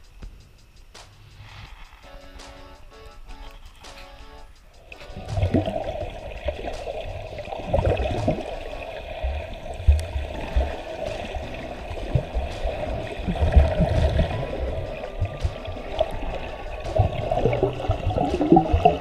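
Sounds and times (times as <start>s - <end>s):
swimmers splashing: 1.4s - 19.0s
muffled underwater water noise: 3.2s - 19.0s.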